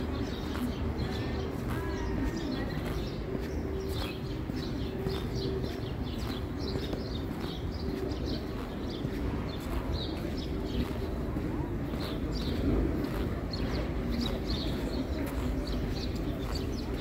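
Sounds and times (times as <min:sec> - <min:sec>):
low hum of city ambience: 0:00.0 - 0:17.0
small birds chirping: 0:00.0 - 0:17.0.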